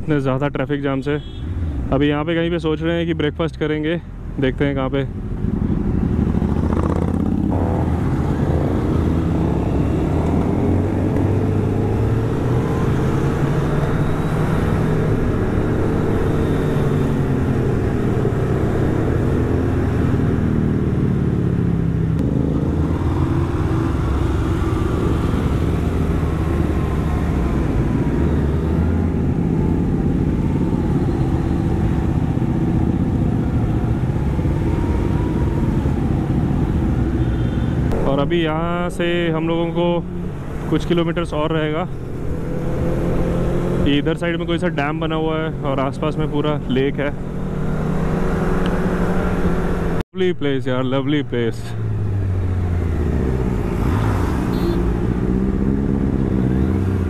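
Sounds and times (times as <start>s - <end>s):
motorcycle engine revving: 5.2s - 50.0s, 51.8s - 57.0s.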